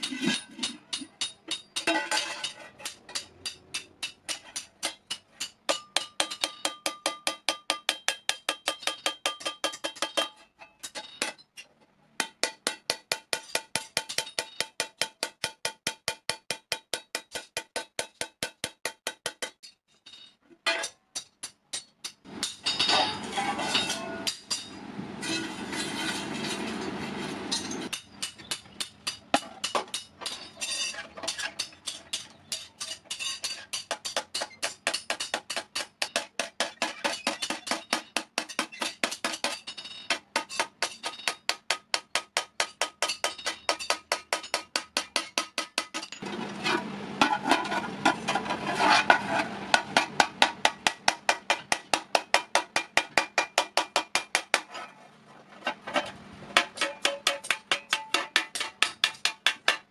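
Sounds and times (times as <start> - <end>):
hammer striking metal plate: 0.0 - 11.4, 12.2 - 19.8, 20.7 - 26.8, 27.5 - 46.3, 47.2 - 54.7, 56.6 - 59.9.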